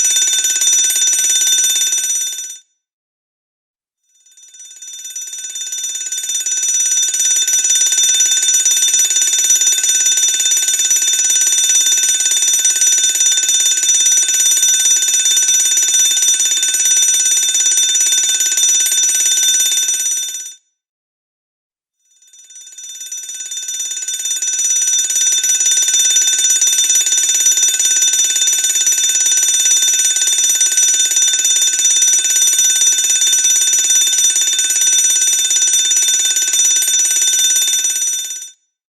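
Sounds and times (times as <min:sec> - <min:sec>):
fire alarm bell ringing: 0:04.3 - 0:20.5, 0:22.2 - 0:38.5.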